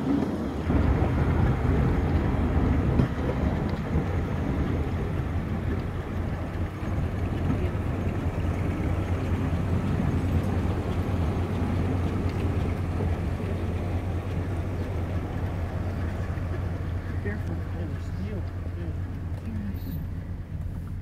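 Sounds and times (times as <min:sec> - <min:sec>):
train rumbling on track: 0:00.0 - 0:21.0
wind buffeting microphone: 0:00.0 - 0:21.0.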